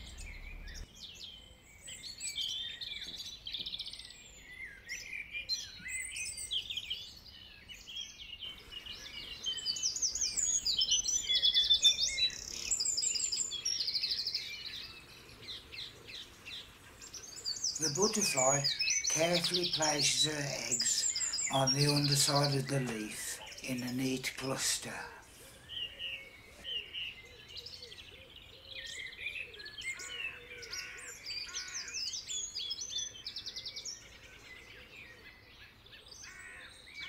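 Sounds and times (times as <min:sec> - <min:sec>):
songbirds singing: 0:00.0 - 0:37.0.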